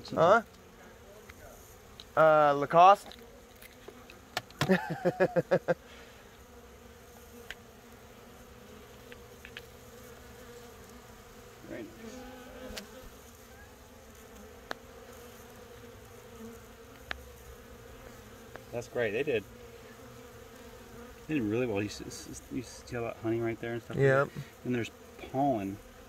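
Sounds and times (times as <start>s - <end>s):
bees humming: 0.0s - 26.0s.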